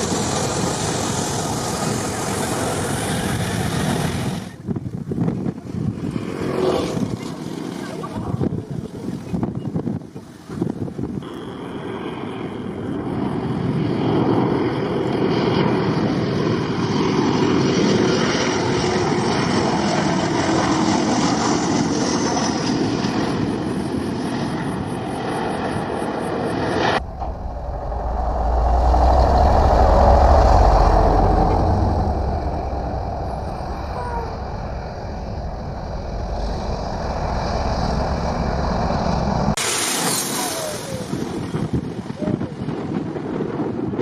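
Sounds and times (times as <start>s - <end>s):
deep jet rumble: 0.0s - 44.0s
jet airliner passing overhead: 0.0s - 44.0s.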